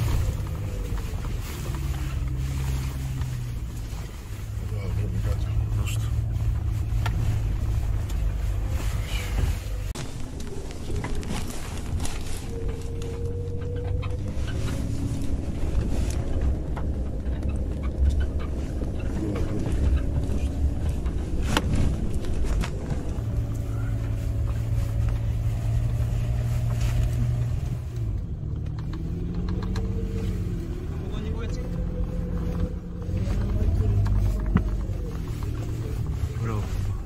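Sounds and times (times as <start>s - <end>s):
body and suspension rattles: 0.0s - 37.0s
engine running at low speed: 0.0s - 37.0s.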